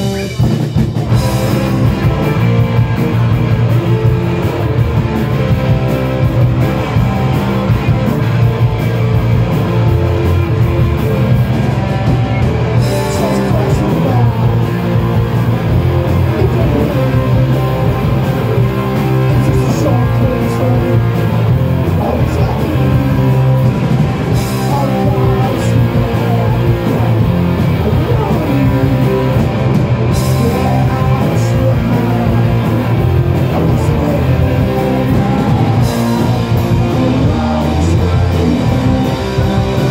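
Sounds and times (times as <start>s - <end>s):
distorted electric guitar: 0.0s - 39.9s
drum kit: 0.0s - 39.9s.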